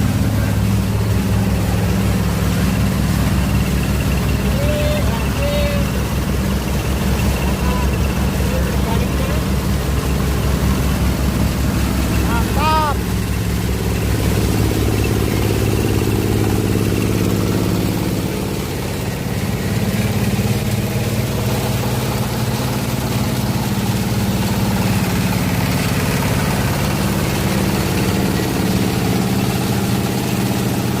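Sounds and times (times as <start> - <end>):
conveyor motor drone: 0.0 - 31.0.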